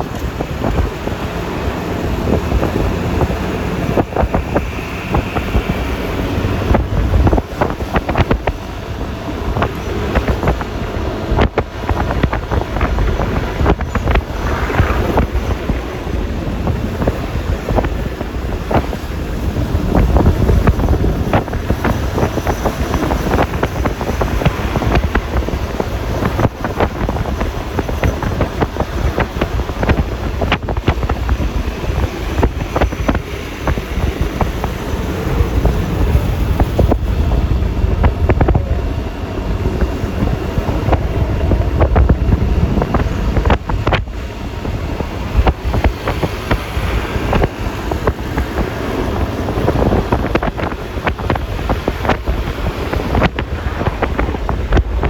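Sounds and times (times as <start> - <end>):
scooter engine rumble: 0.0 - 55.0
tyres on road: 0.0 - 55.0
wind buffeting microphone: 0.0 - 55.0.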